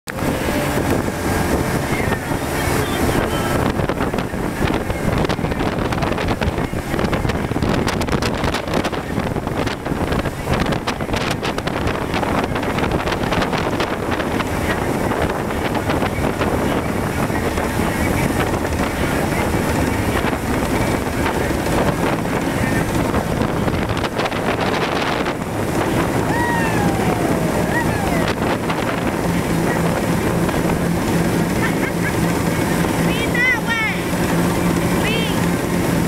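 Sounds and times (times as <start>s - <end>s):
churning wake: 0.1s - 36.0s
motorboat engine: 0.1s - 36.0s
wind buffeting microphone: 0.1s - 36.0s.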